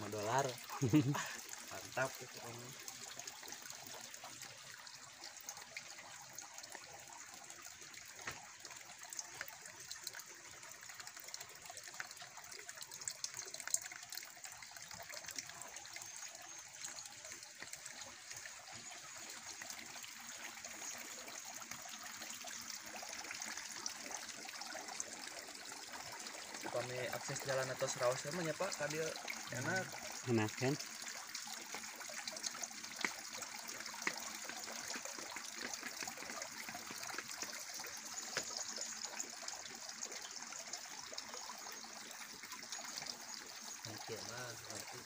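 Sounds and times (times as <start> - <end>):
water trickling into pool: 0.0 - 45.0.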